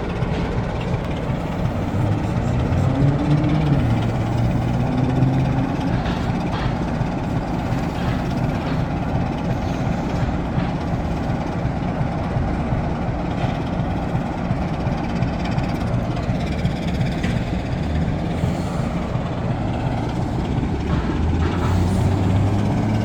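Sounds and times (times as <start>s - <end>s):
diesel locomotive engines idling: 0.0s - 23.0s.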